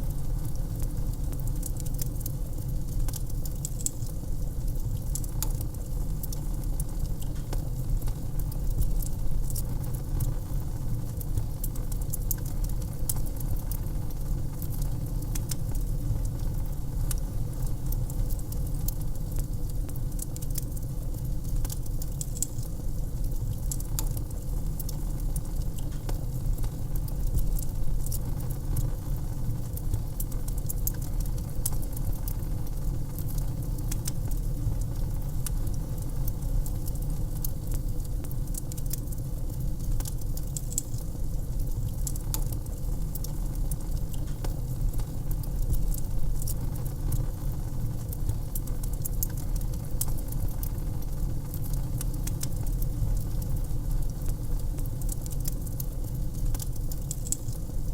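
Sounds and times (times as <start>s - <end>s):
low rumble of fire: 0.0s - 57.9s
wood fire crackling: 0.0s - 57.9s.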